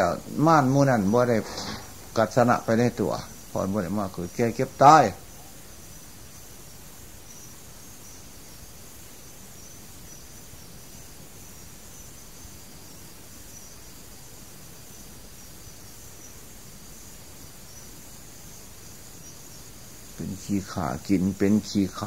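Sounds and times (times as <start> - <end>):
faint high-pitched whine: 0.0 - 22.0
recording hiss and low rumble: 0.0 - 22.0.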